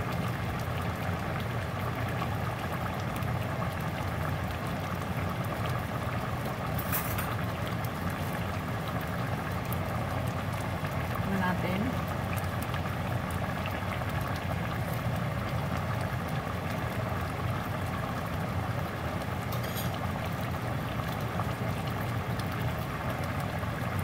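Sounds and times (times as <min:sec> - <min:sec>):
pot bubbling: 0:00.0 - 0:24.0.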